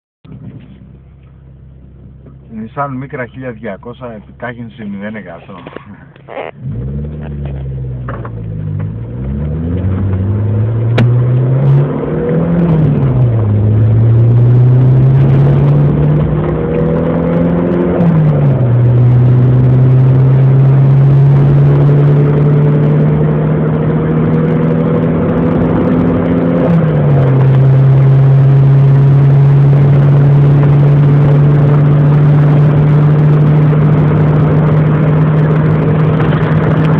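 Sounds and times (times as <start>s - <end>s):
car engine accelerating hard: 6.6s - 36.9s.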